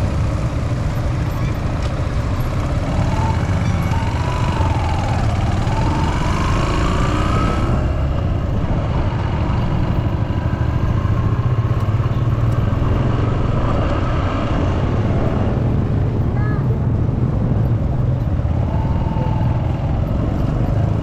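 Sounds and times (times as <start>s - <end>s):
vehicle engine rumble and whine: 0.0s - 21.0s.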